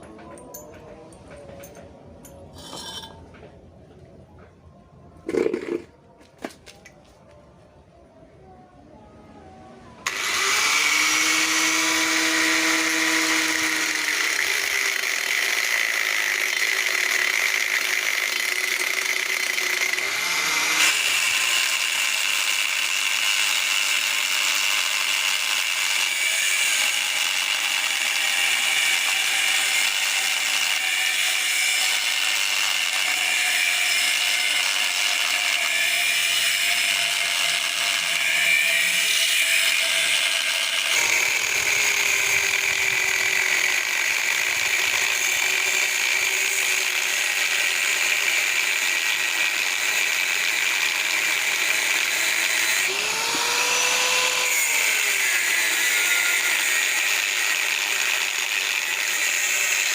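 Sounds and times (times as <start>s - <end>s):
power tool whining: 10.0s - 59.9s.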